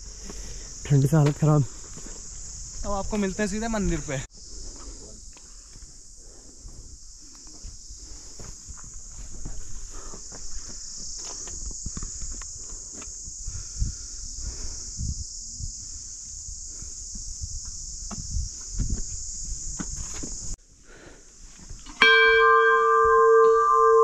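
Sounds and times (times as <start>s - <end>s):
insect chorus chirring: 0.0s - 24.0s.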